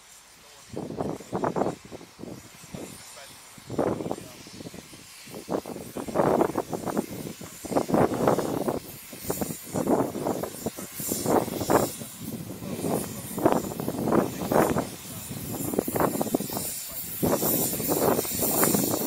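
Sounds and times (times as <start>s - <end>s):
hiss of steam: 0.0s - 19.0s
steam locomotive exhaust beats: 0.0s - 19.0s.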